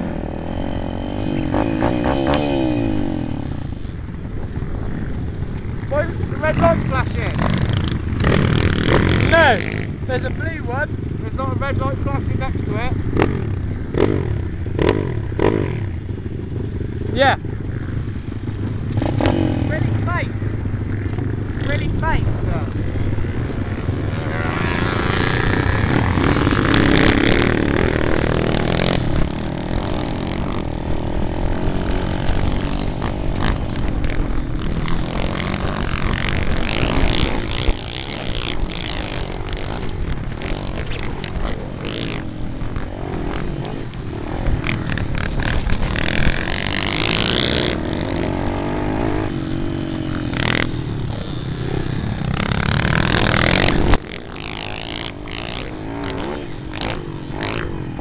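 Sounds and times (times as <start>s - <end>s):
wind rushing on microphone: 0.0s - 54.2s
dirt bike engine revving: 0.0s - 58.0s.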